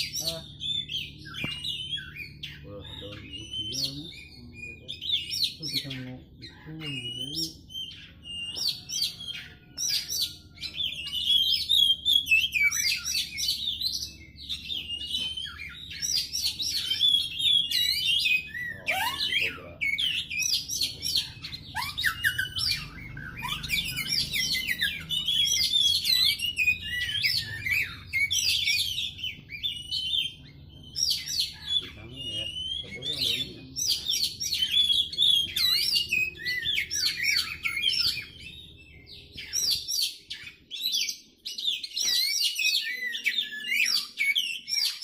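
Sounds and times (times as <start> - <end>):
bird singing varied whistles: 0.0 - 45.0.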